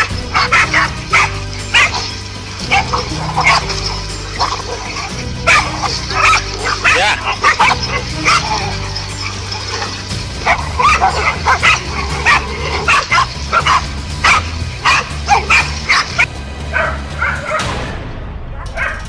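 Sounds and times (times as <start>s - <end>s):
dog barking and yipping: 0.0s - 17.7s, 18.7s - 19.0s
background music with bass: 0.0s - 19.0s.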